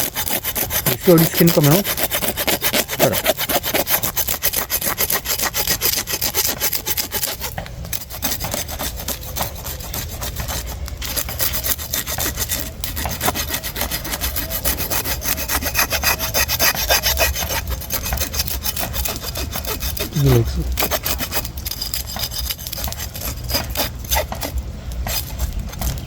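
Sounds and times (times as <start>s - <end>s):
rapid scraping strokes: 0.0s - 26.0s.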